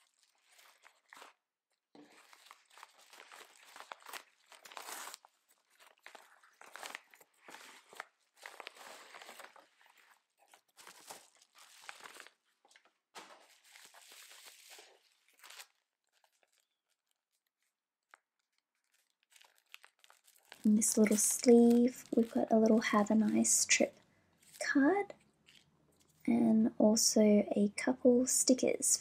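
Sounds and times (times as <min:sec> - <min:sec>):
paper envelope tearing: 0:00.0 - 0:23.8.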